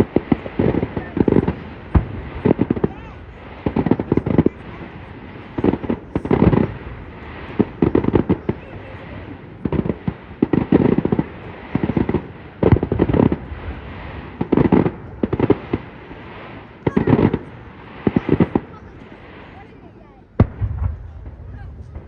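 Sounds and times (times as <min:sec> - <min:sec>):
fireworks bangs: 0:00.0 - 0:22.0
fireworks hiss: 0:00.0 - 0:22.0.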